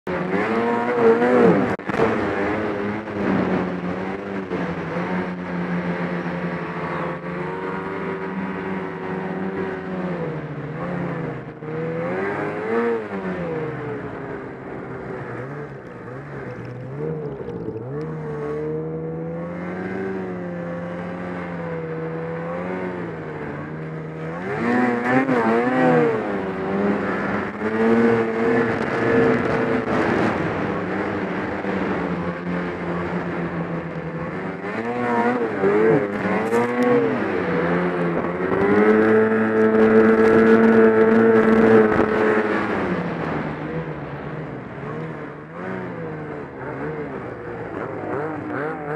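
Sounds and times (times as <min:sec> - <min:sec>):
snowmobile engine revving: 0:00.1 - 0:48.9.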